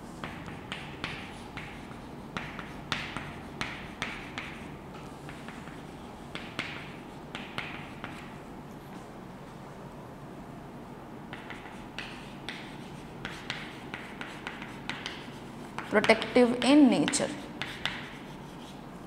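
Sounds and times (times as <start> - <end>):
chalk scratching strokes: 0.0 - 8.3, 11.3 - 18.8
chalk tapping on blackboard: 0.2 - 8.4, 11.3 - 18.8.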